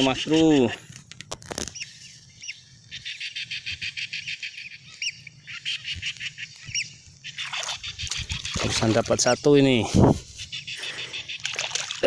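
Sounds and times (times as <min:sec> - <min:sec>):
high chirping calls: 0:01.7 - 0:12.0.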